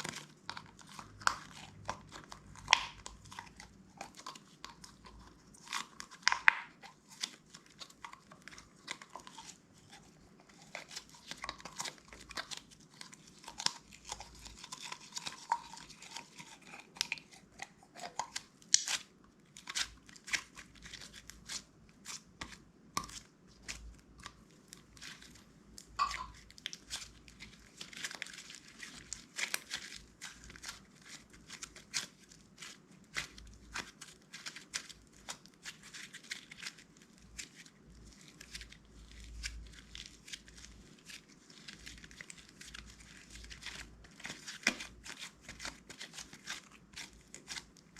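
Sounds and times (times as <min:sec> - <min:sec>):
slime squished by hand: 0:00.0 - 0:47.9.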